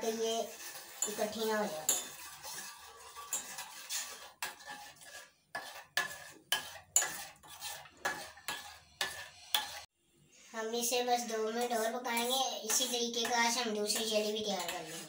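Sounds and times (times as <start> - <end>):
metal spoon stirring in saucepan: 0.0 - 9.9, 11.6 - 15.0.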